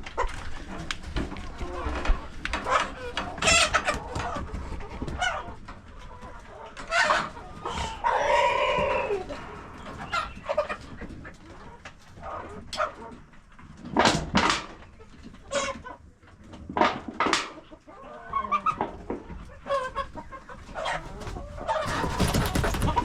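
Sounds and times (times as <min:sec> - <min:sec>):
chickens clucking and squawking: 0:00.0 - 0:23.0.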